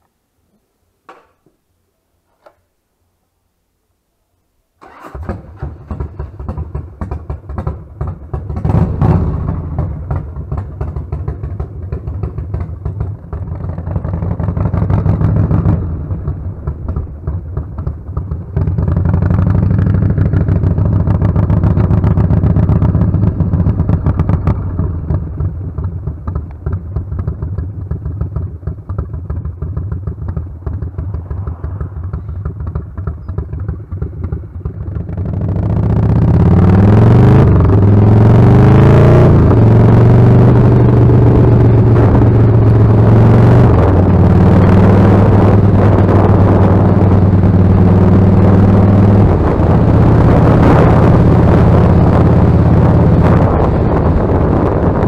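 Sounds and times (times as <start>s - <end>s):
motorcycle engine running: 4.9s - 55.0s.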